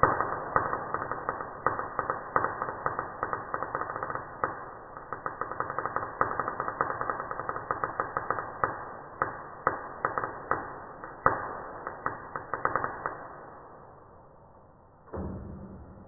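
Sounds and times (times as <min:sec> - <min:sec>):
welding arc crackling: 0:00.0 - 0:13.4.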